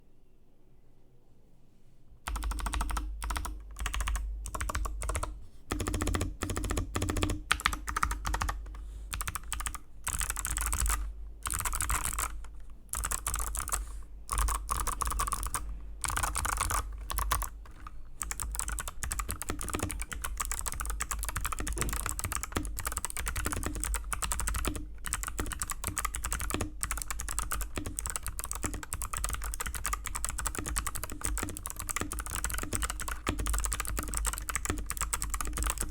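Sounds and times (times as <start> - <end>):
mechanical keyboard typing: 2.3 - 35.9.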